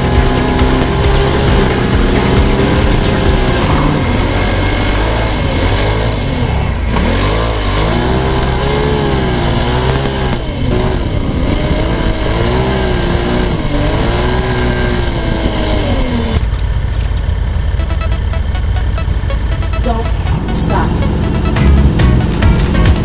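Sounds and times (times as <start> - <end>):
utility vehicle engine revving: 0.0 - 23.0.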